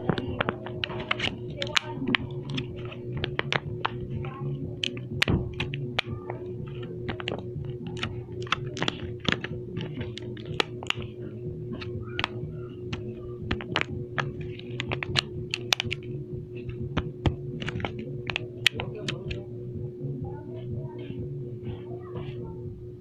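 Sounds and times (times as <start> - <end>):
fidget toy clicking: 0.0 - 11.1, 11.7 - 19.4
steady low hum: 0.0 - 23.0.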